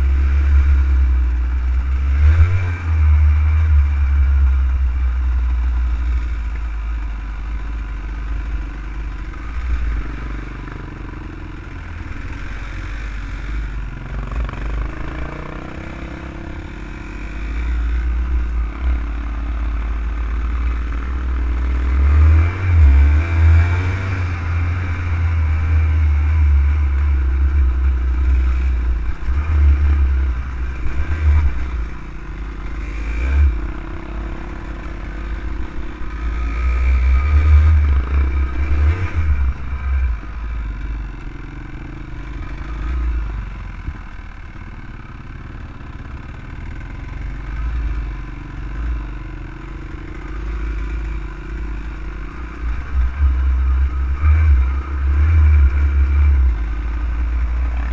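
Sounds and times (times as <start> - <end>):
off-road vehicle engine revving: 0.0 - 57.9.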